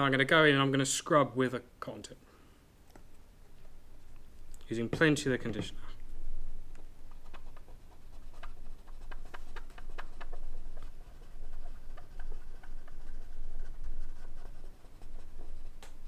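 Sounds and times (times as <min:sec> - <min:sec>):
steady low hum: 0:01.6 - 0:16.0.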